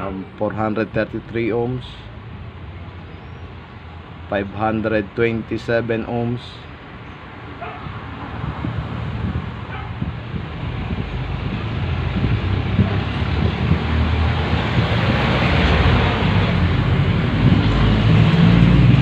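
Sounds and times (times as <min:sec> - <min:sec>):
traffic hiss: 0:00.0 - 0:19.0
vehicle engine rumble: 0:00.0 - 0:19.0.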